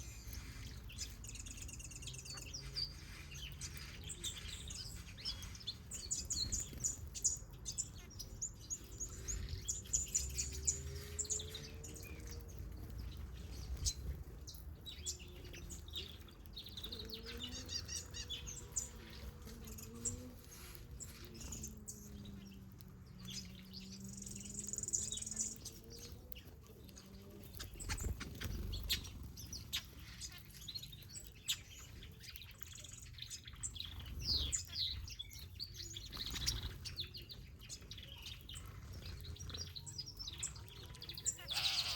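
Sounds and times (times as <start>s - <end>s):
birds chirping and twittering: 0.0s - 41.9s.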